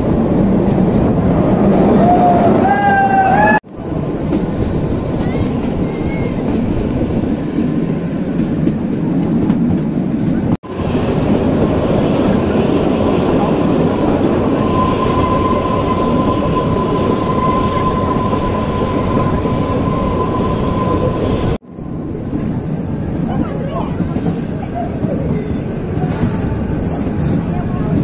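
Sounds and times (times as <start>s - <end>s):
train rumbling and rattling: 0.0s - 28.0s.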